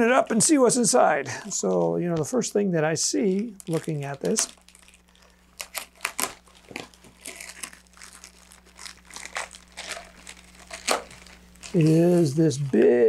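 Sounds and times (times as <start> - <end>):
plastic bag crinkling: 0.8 - 2.3, 3.2 - 12.9.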